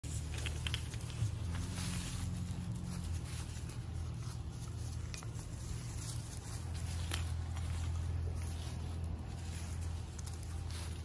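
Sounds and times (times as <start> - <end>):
low steady rumble: 0.0 - 11.0
puppy rustling through leaves: 0.0 - 11.0.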